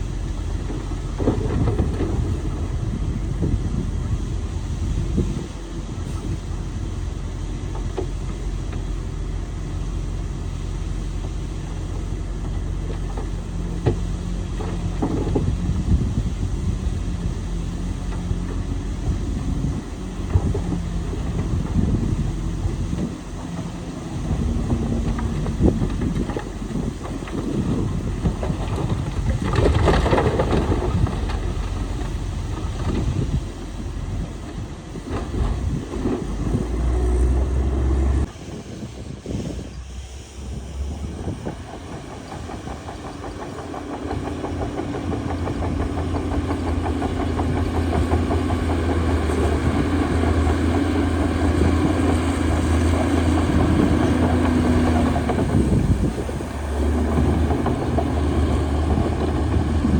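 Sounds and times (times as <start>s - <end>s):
bulldozer engine rumbling: 0.0s - 59.9s
wind buffeting microphone: 0.0s - 59.9s.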